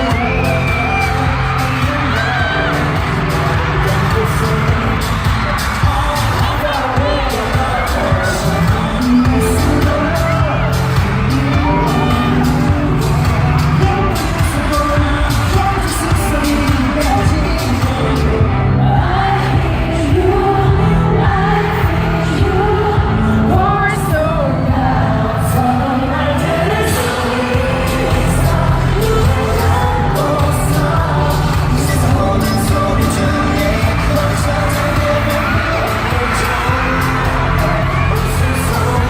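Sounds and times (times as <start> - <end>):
male vocals singing: 0.0 - 39.0
pop backing track with heavy bass: 0.0 - 39.0.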